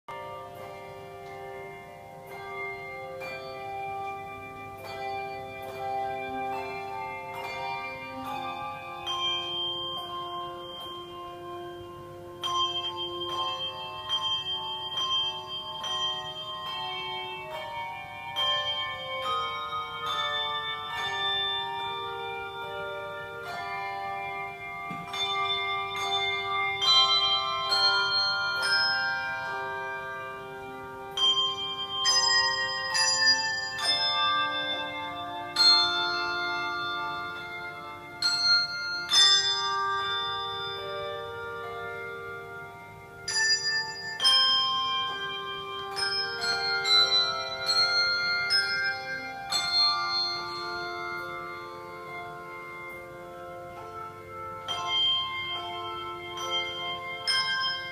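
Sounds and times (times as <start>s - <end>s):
handbells playing a tune: 0.0s - 57.9s.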